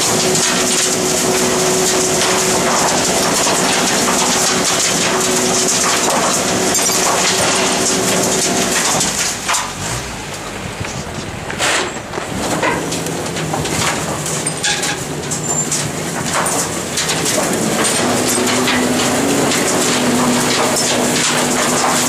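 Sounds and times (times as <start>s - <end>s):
garbage truck engine running: 0.0s - 22.0s
knocks and rattles: 0.0s - 22.0s.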